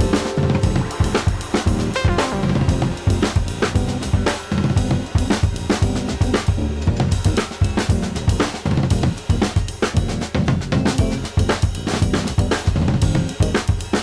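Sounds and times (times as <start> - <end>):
music with drum beat and bass: 0.0 - 14.0.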